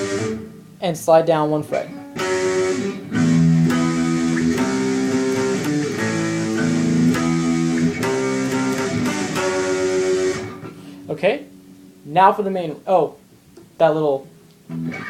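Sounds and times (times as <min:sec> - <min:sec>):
guitar power chords: 0:00.0 - 0:15.0.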